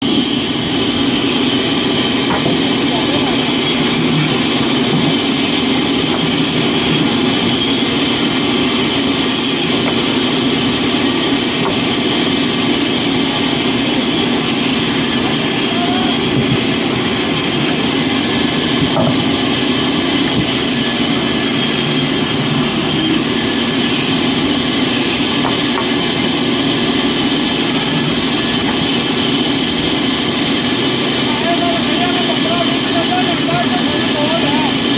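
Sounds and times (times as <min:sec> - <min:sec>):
woodworking machinery running: 0:00.0 - 0:34.9.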